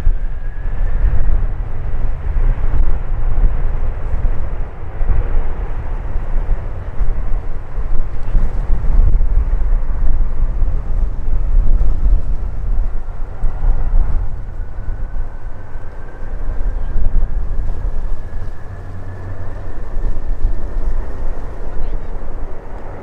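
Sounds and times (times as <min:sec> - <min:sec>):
faint engine whine: 0:00.0 - 0:23.0
jet engine rumble: 0:00.0 - 0:23.0
wind on microphone: 0:00.0 - 0:23.0.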